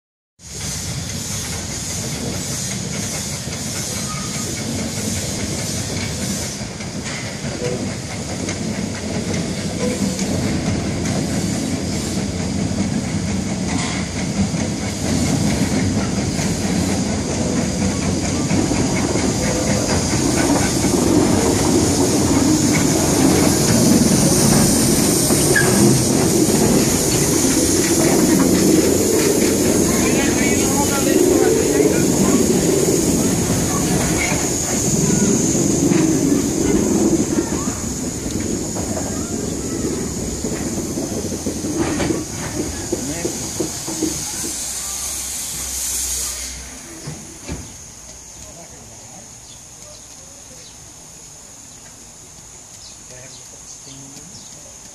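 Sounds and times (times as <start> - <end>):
steam hissing: 0.4 - 54.9
train rumbling on track: 0.4 - 54.9.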